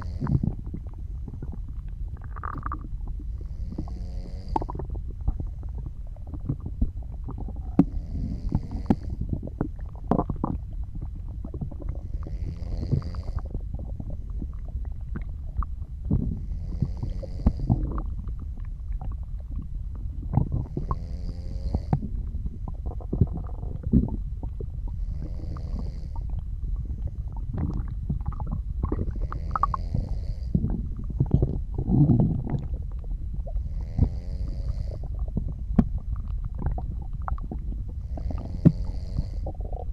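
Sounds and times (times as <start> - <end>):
soft snoring breaths: 0.0 - 1.6, 2.3 - 15.2, 16.1 - 18.2, 20.1 - 35.6, 36.5 - 39.9
stomach gurgling and rumbling: 0.0 - 39.9.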